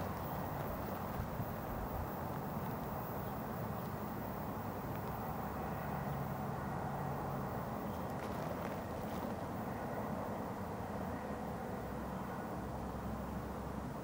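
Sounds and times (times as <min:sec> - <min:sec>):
distant freight train rumbling: 0:00.0 - 0:14.0.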